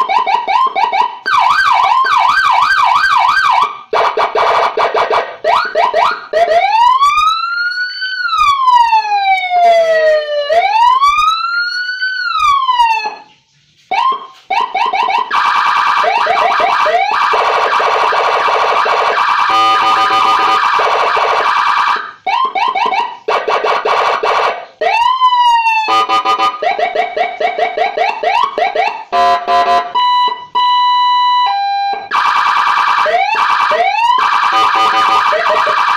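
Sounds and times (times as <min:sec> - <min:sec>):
electronic siren cycling tones: 0:00.0 - 0:13.3, 0:13.9 - 0:35.9.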